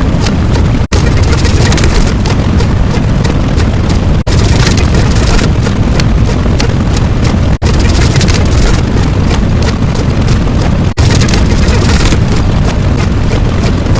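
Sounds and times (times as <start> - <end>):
loud rumbling with crackling: 0.0 - 13.9.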